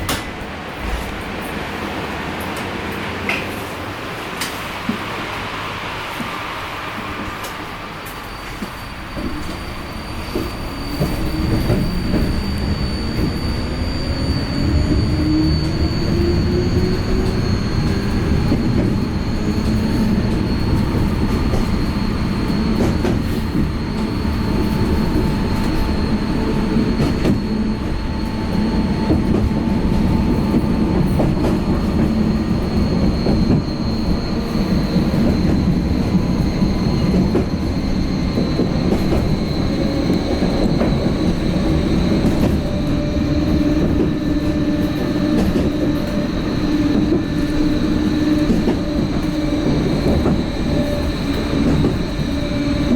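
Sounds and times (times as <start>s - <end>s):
tram rolling rumble: 0.0s - 52.9s.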